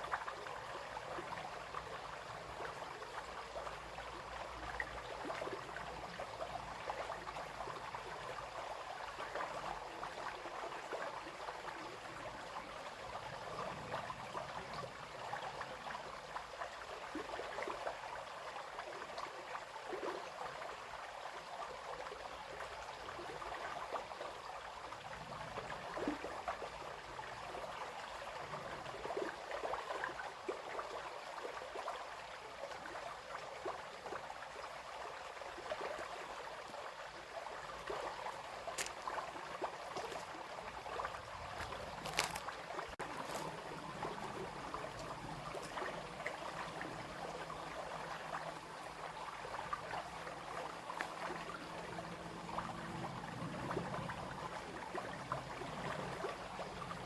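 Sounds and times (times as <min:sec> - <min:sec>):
brook babbling over stones: 0:00.0 - 0:57.0.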